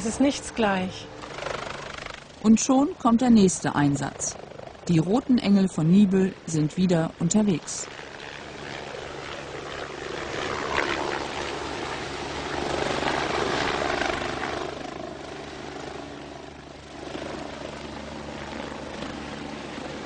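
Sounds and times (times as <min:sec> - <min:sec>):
helicopter rotor and turbine drone: 0:00.0 - 0:20.0.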